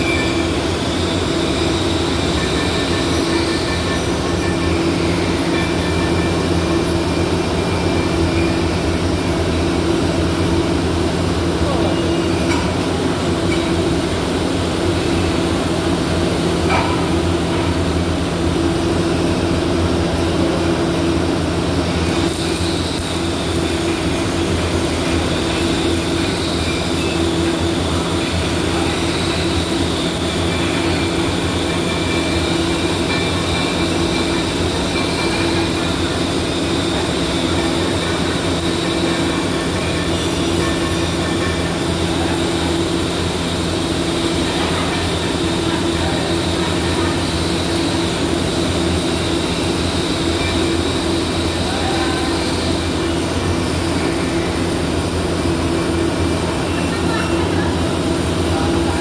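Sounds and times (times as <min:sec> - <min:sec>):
machinery drone: 0:00.0 - 0:59.0.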